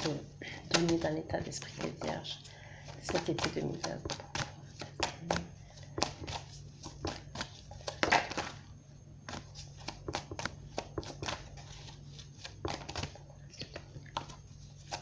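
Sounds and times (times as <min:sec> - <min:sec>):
cards being shuffled: 0:00.0 - 0:02.2, 0:02.8 - 0:15.0.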